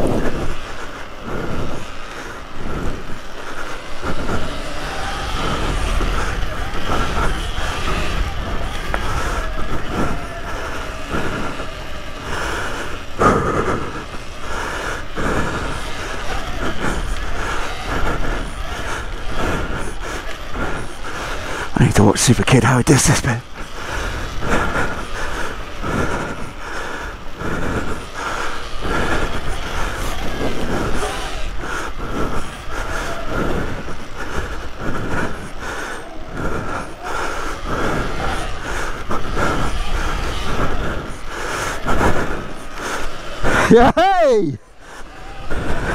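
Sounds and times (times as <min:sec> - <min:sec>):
bike rattling over bumps: 0:00.0 - 0:21.8, 0:23.4 - 0:45.9
electric motorbike motor whine: 0:00.0 - 0:21.8, 0:23.4 - 0:45.9.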